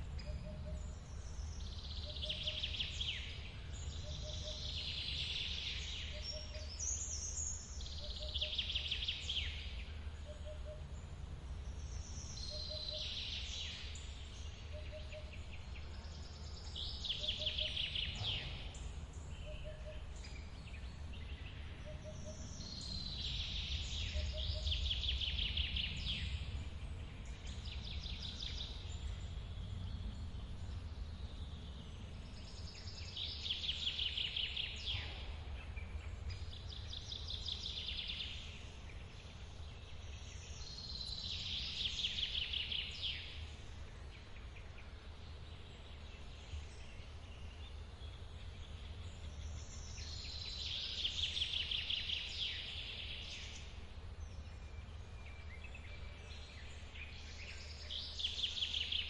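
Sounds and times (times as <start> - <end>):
songbird trilling song: 0.0 - 59.0.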